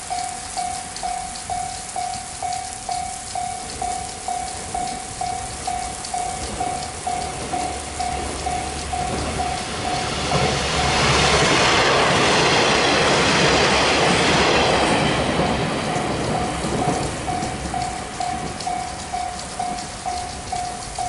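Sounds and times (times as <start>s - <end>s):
level crossing warning bell: 0.0s - 21.0s
train wheels clattering over rails: 0.0s - 21.0s.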